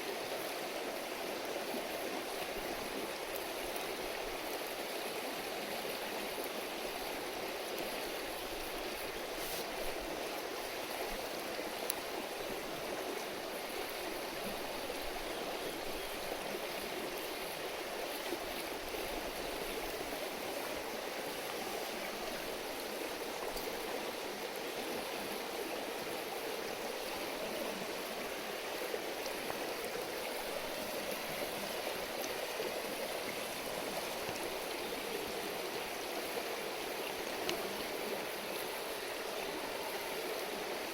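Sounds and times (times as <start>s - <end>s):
river babbling over stones: 0.0s - 40.9s.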